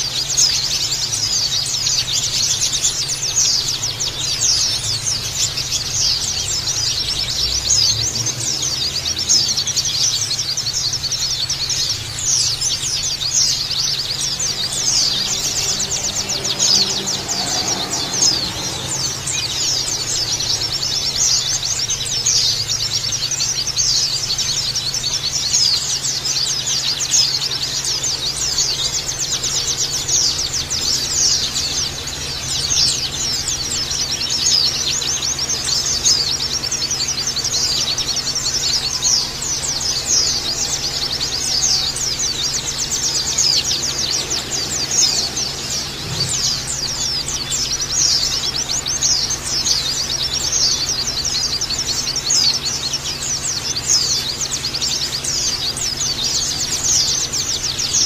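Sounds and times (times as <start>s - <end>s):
chorus of birds chirping: 0.0s - 58.0s.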